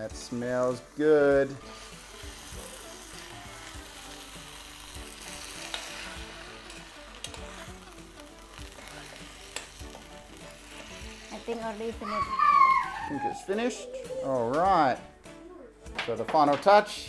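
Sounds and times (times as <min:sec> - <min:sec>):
food sizzling in a pot: 0:00.0 - 0:13.8.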